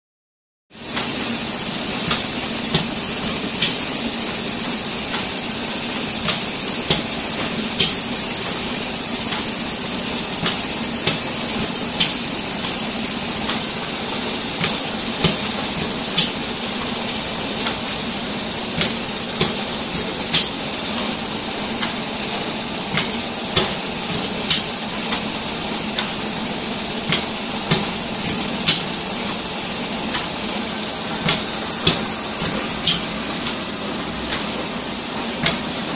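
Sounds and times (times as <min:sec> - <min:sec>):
spot-welding machine clacking: 0:00.8 - 0:35.9
steady pneumatic hiss: 0:00.8 - 0:35.9.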